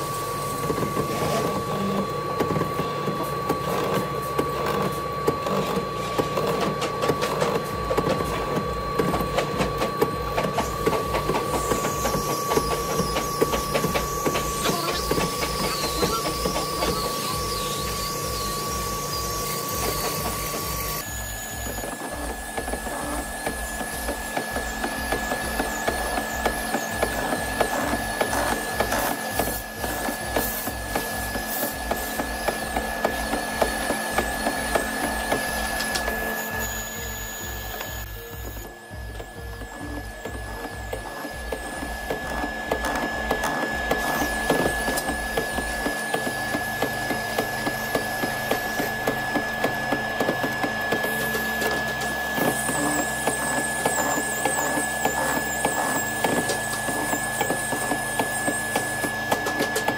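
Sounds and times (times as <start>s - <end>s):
boring machine motor whine: 0.0s - 59.9s
low rhythmic pulse: 0.0s - 59.9s.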